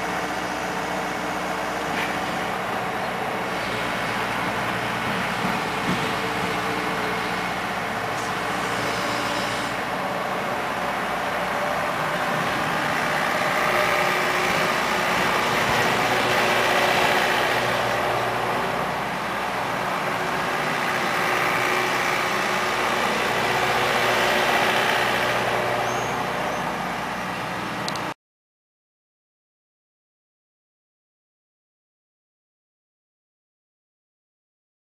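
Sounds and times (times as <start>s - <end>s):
excavator diesel engine running: 0.0s - 28.1s.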